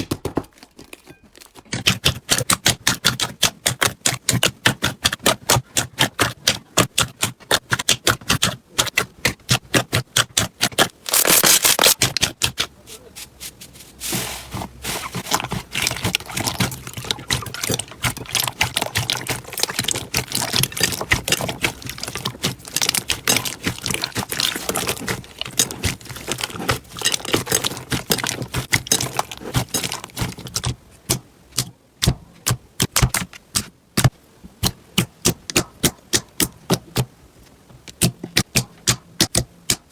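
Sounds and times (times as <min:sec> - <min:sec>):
slime clicking and squelching: 0:00.8 - 0:13.4, 0:14.5 - 0:37.1, 0:37.9 - 0:39.9.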